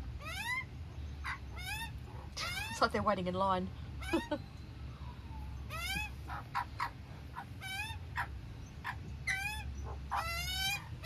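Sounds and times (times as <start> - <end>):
young magpies squawking: 0.2 - 3.2, 3.9 - 4.5, 5.7 - 11.0.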